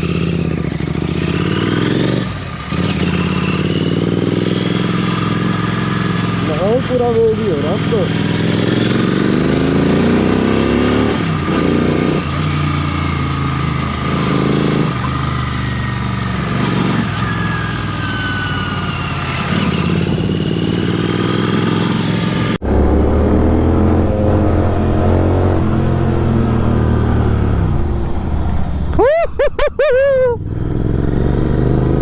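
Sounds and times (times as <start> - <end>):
motorcycle engine revving: 0.0 - 18.0, 18.7 - 29.1, 30.1 - 32.0
deeper steady engine: 0.0 - 32.0.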